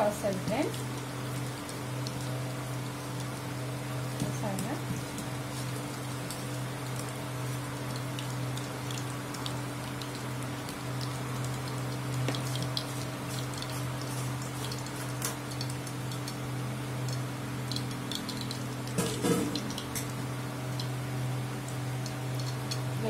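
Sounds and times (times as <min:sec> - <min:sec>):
hot oil crackling and sizzling: 0:00.0 - 0:23.0
steady low hum: 0:00.0 - 0:23.0.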